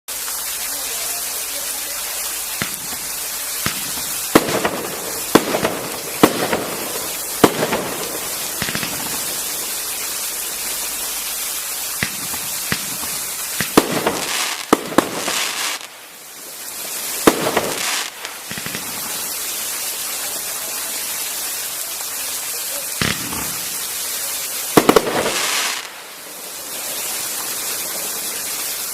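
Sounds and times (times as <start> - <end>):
crackling tails: 0.1 - 28.9
steady hiss: 0.1 - 28.9
fireworks bangs: 0.6 - 28.9.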